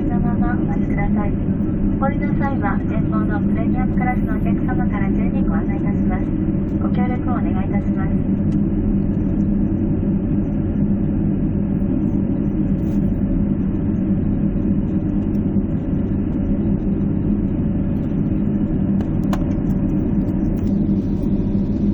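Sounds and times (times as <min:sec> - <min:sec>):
cabin air system hum: 0:00.0 - 0:21.9
jet engines idling: 0:00.0 - 0:21.9.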